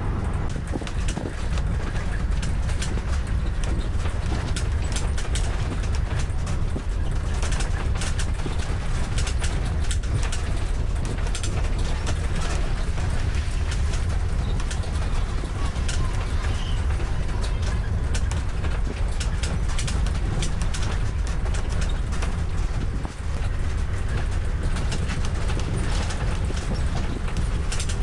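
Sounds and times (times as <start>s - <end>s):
vehicle rumbling on dirt road: 0.0s - 28.0s.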